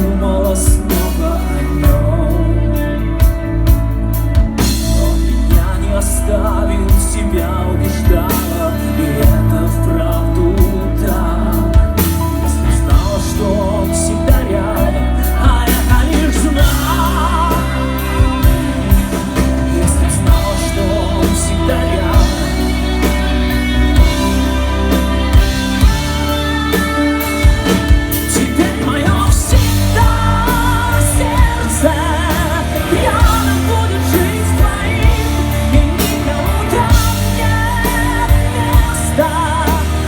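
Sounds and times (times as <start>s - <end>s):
person singing: 0.0s - 40.0s
rock band playing: 0.0s - 40.0s.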